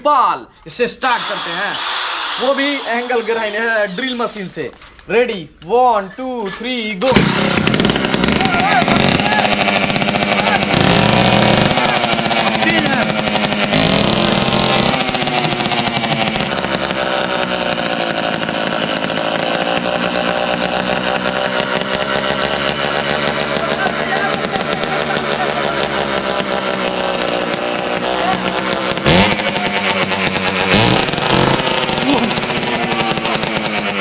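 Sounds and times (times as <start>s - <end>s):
two-stroke engine revving: 1.0s - 4.6s, 7.0s - 34.0s.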